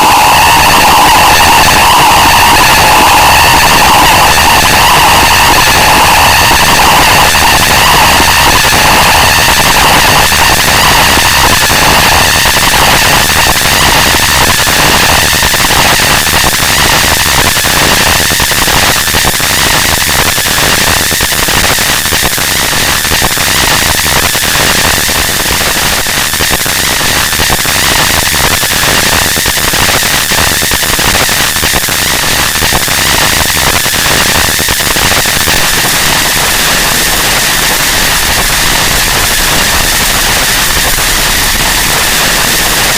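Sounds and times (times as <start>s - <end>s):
distorted static and crackle: 0.0s - 42.9s.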